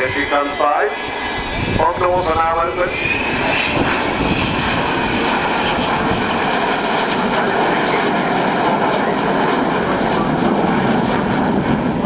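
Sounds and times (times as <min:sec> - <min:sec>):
jet plane flying past: 0:00.0 - 0:12.0.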